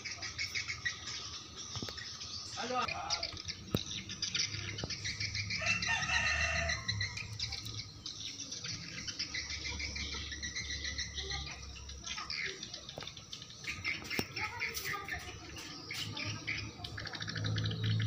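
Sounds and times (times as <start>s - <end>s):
birds chirping: 0.0s - 18.0s
insects chirping: 0.0s - 18.0s.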